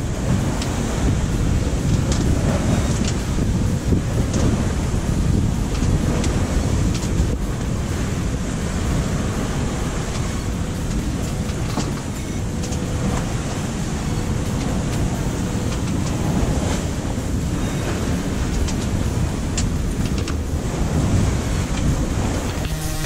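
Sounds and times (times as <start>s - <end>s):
waves rushing along hull: 0.0s - 23.0s
wind buffeting microphone: 0.0s - 23.0s.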